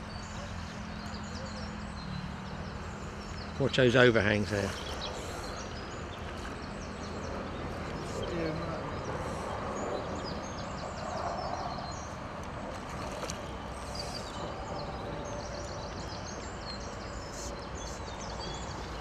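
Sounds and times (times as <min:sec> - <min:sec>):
small birds singing: 0:00.0 - 0:19.0.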